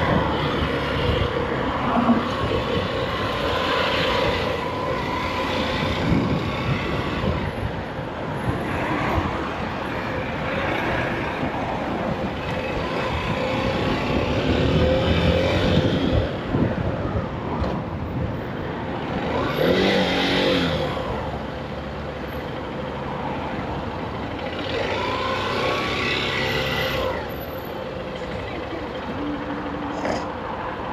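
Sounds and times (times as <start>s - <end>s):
traffic noise: 0.0s - 30.9s
wind: 0.0s - 30.9s.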